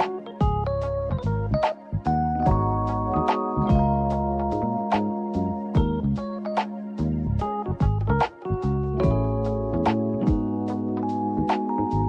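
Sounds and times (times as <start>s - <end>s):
held keyboard chords: 0.0s - 12.0s.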